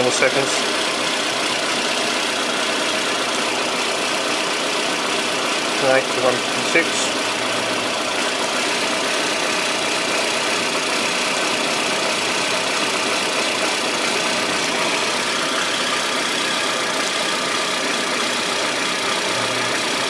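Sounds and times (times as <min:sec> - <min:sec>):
car engine idling with misfire: 0:00.0 - 0:20.0.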